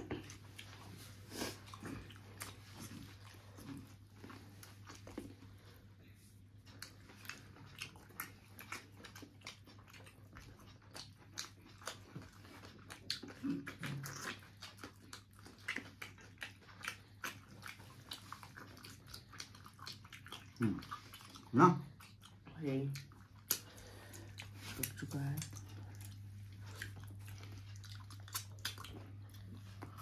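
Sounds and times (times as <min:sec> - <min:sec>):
wet chewing and mouth smacking: 0:00.0 - 0:30.0.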